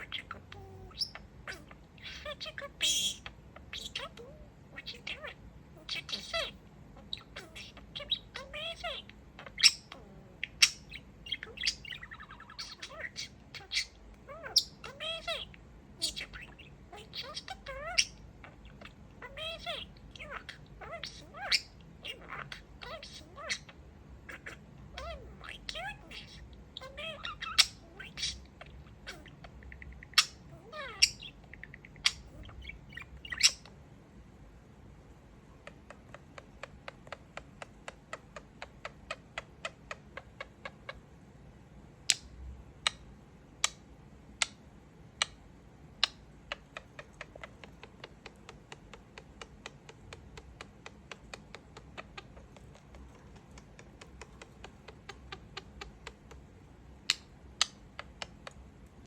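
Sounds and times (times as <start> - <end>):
budgie chirping and squawking: 0.0 - 33.8, 35.6 - 41.0, 45.2 - 58.6.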